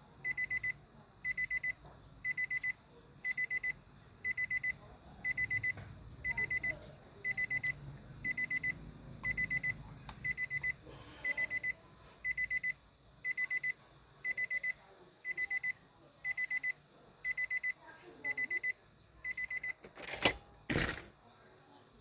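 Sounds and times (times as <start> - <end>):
electronic alarm beeping: 0.2 - 20.2.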